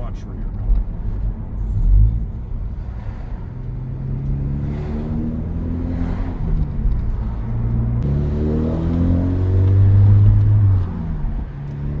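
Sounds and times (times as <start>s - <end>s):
car exhaust accelerating: 0.6s - 12.0s.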